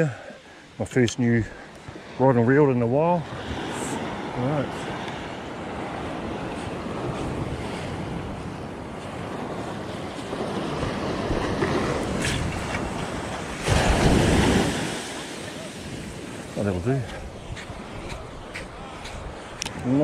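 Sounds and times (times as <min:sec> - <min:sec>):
small waves on sand beach: 0:00.0 - 0:20.0
wind on microphone: 0:03.2 - 0:20.0.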